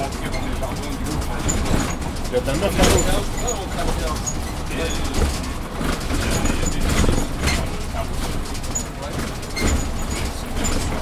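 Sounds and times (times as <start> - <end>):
bus motor and road rumble: 0.0 - 11.0
indistinct voices: 0.0 - 11.0.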